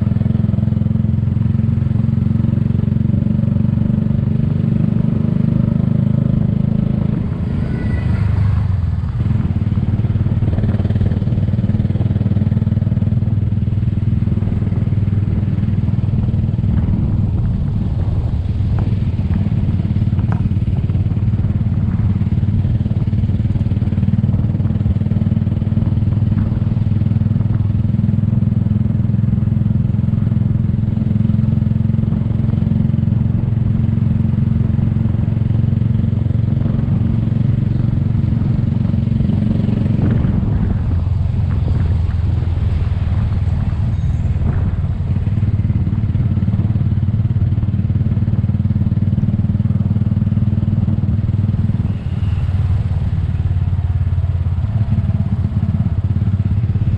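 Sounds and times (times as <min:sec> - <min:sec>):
small motorcycle engine running: 0:00.0 - 0:56.9.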